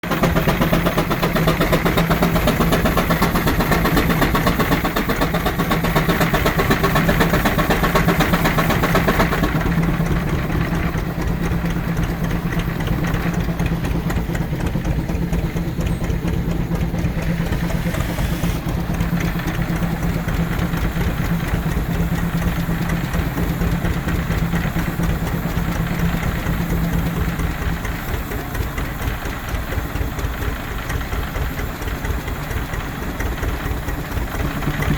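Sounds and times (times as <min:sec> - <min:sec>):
steam engine running: 0:00.0 - 0:34.9.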